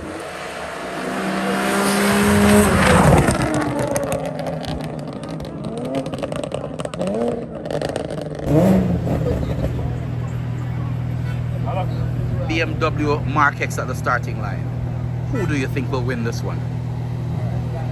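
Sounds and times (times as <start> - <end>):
race car engine passing by: 0.0 - 17.9
race car engine revving: 0.0 - 17.9.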